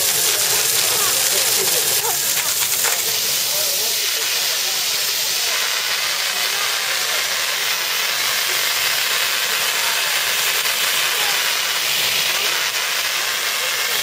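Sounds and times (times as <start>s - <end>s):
water spray hissing: 0.0s - 14.0s.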